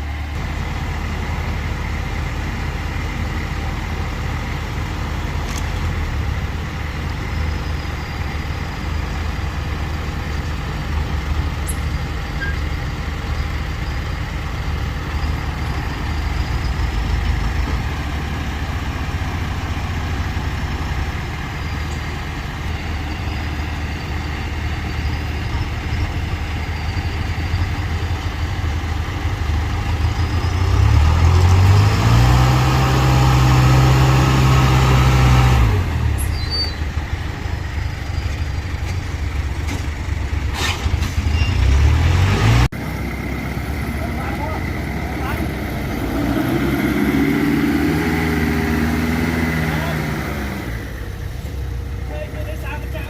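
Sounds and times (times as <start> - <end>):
diesel engine of earthmover: 0.0 - 53.0.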